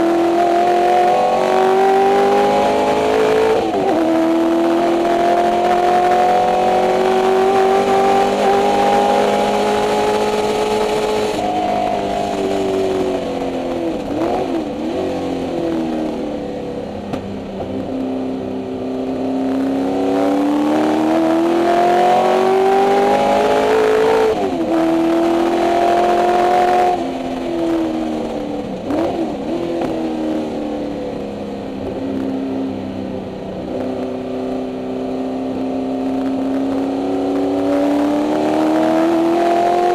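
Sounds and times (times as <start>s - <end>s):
race car engine revving: 0.0s - 32.7s, 35.0s - 39.9s.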